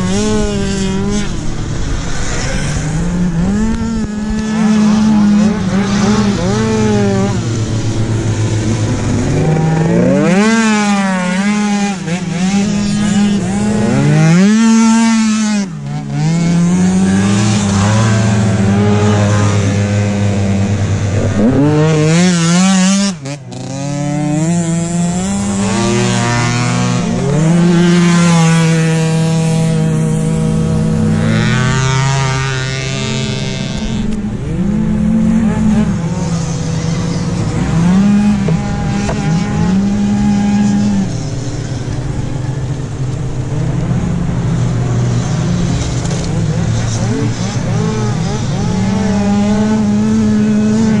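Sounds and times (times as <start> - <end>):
scooter engines revving high: 0.0 - 51.0.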